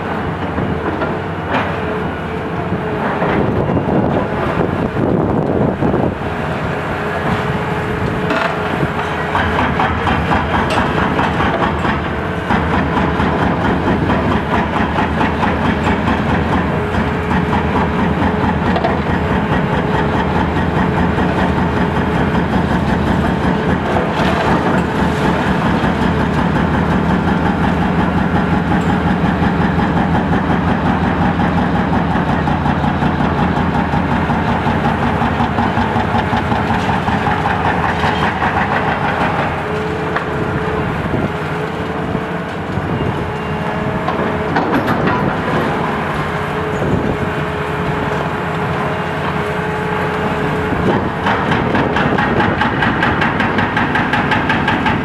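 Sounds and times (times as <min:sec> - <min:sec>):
excavator engine and hydraulics: 0:00.0 - 0:55.0.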